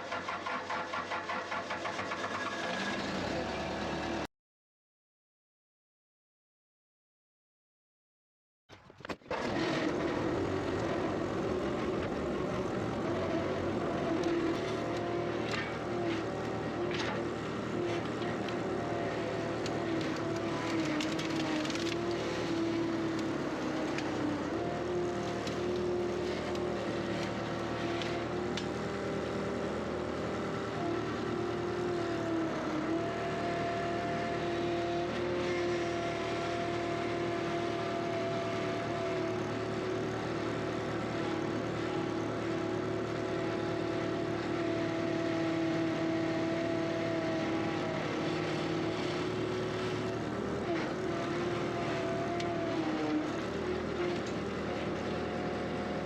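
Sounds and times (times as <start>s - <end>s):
skid steer engine running: 0.0s - 4.3s, 9.3s - 56.0s.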